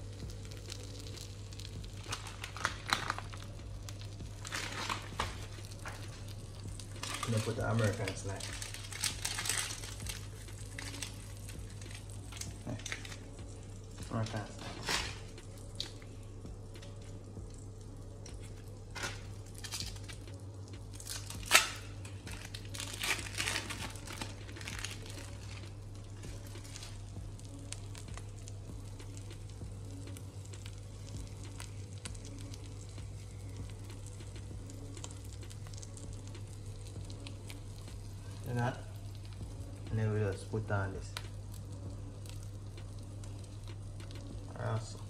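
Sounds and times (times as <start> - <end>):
bread sizzling in a pan: 0.0 - 45.0
plastic wrapper crinkling: 0.3 - 40.4.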